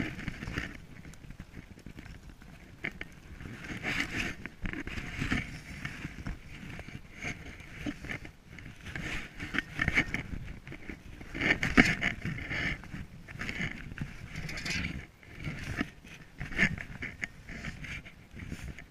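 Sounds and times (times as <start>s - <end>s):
crunching and scraping in snow: 0.0s - 18.9s.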